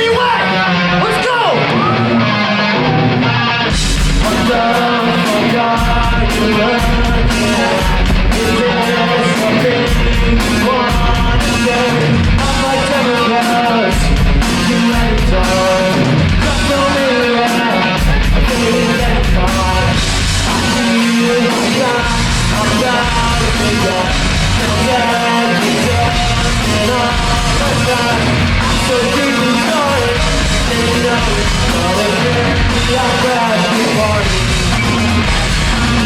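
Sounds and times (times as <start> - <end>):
bass guitar: 0.0 - 36.0
drums: 0.0 - 36.0
electric guitars: 0.0 - 36.0
person singing: 2.7 - 36.0.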